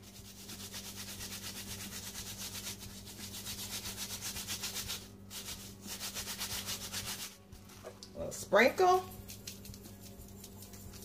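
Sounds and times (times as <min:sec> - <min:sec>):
gloved fingertips rubbing: 0:00.1 - 0:07.8, 0:09.1 - 0:11.0.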